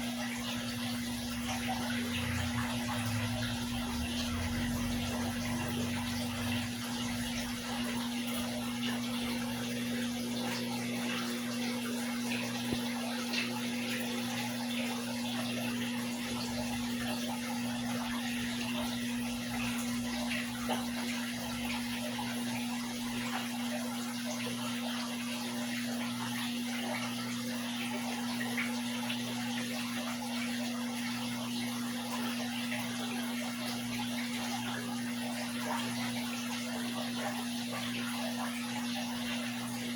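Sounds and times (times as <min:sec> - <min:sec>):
constant low hum: 0:00.0 - 0:39.8
aquarium water bubbling: 0:00.0 - 0:39.9.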